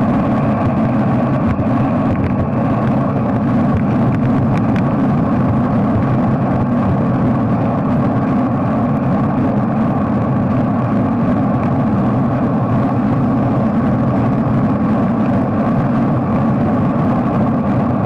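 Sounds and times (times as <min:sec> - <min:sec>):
traffic noise: 0:00.0 - 0:18.0
tyres on wet road: 0:00.0 - 0:18.0.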